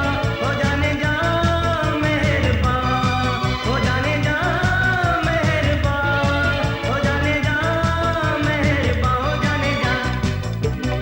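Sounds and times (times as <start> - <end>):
bhangra disco music: 0.0 - 11.0.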